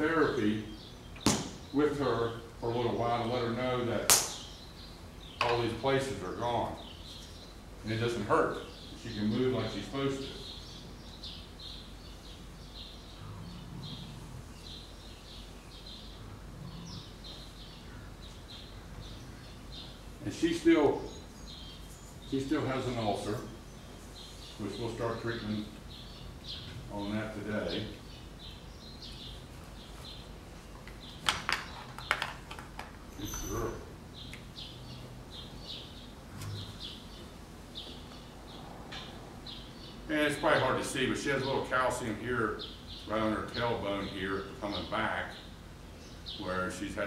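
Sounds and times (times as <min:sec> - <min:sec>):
low background noise: 0:00.0 - 0:47.0
small birds chirping: 0:00.0 - 0:47.0.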